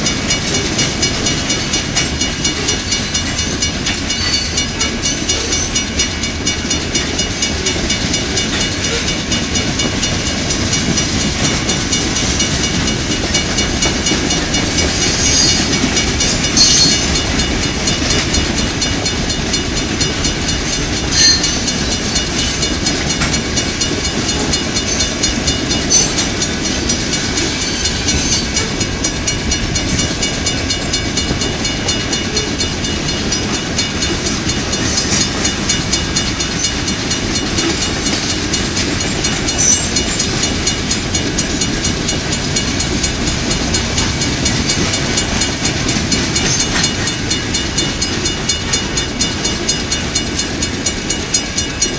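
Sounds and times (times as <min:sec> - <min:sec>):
clickety-clack over rail joints: 0:00.0 - 0:51.9
train wheels rumbling on rails: 0:00.0 - 0:51.9.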